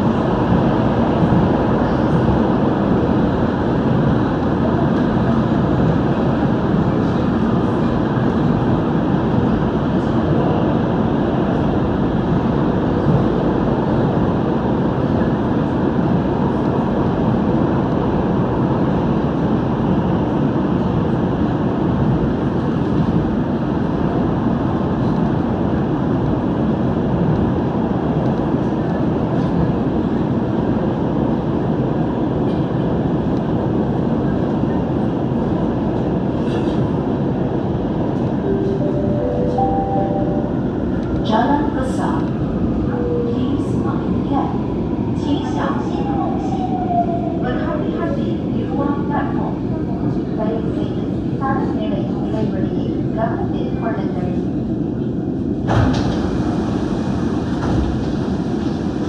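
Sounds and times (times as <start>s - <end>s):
metro train rumbling in tunnel: 0.0s - 59.0s.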